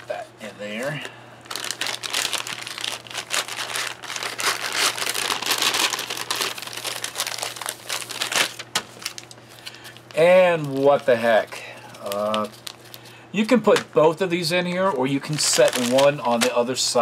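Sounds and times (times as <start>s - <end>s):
plastic bag crinkling: 0.6s - 13.2s, 15.1s - 16.6s.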